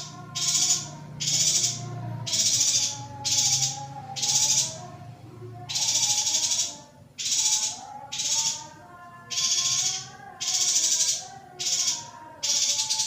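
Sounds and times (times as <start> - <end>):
bird harsh buzzy calls: 0.0 - 5.0, 5.6 - 13.0
faint bird warbling: 0.0 - 5.0, 5.6 - 13.0.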